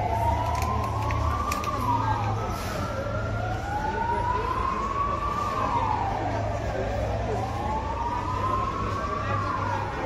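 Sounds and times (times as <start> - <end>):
emergency sirens wailing: 0.0 - 10.0
higher siren: 0.0 - 10.0.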